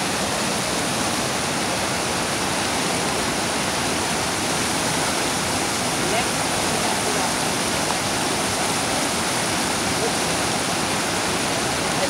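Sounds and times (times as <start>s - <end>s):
rapids running over rocks: 0.0s - 12.0s
waterfall roaring: 0.0s - 12.0s.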